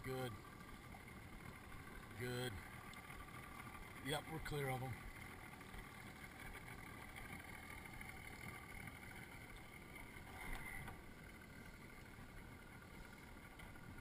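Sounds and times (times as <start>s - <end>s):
small boat engine hum: 0.0s - 14.0s.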